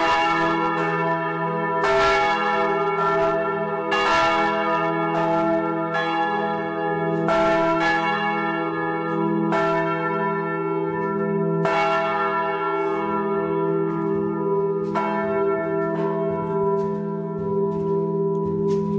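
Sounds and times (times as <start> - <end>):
church bells ringing: 0.0 - 18.9.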